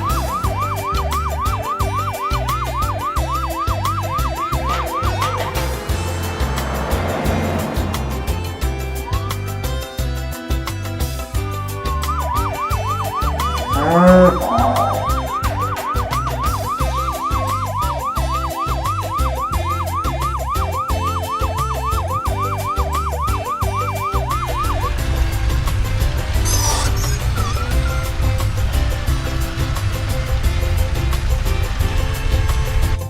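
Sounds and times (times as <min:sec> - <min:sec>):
yelping siren: 0:00.0 - 0:09.6, 0:11.8 - 0:31.6
music with steady beat: 0:00.0 - 0:33.0.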